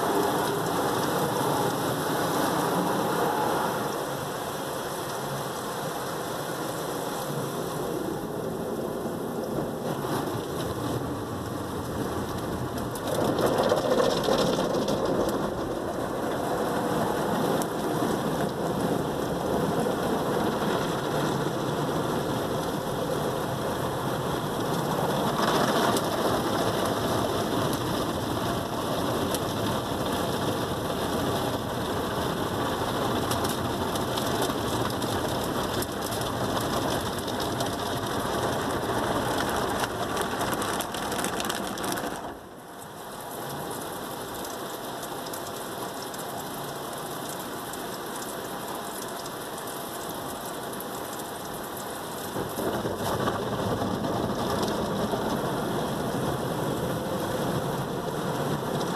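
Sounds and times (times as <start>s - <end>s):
car wash water drumming on car: 0.0s - 58.9s.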